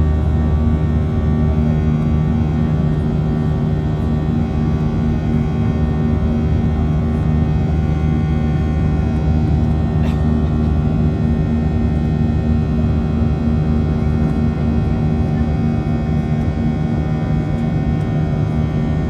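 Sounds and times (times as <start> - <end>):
jet engine cabin drone: 0.0 - 19.0.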